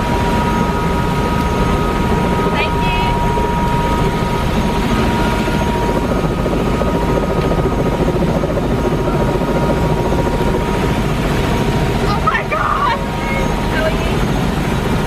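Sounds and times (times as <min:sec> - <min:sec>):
faint steady whine: 0:00.0 - 0:15.0
helicopter rotor and engine rumble: 0:00.0 - 0:15.0.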